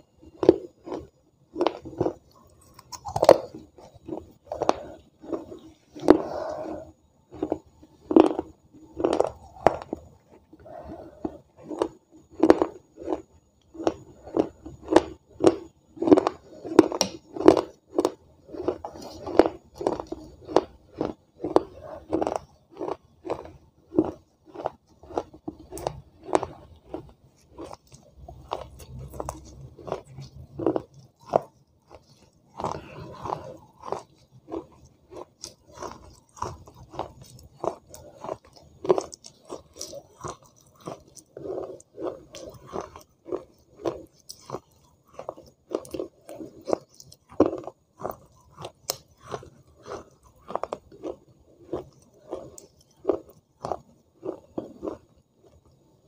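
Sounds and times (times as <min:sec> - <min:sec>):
person chewing crunchy clay: 0:00.0 - 0:56.0.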